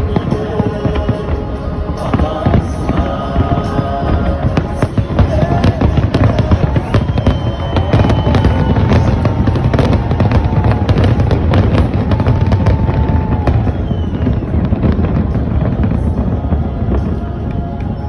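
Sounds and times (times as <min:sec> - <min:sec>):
fireworks cracking and banging: 0:00.0 - 0:18.0.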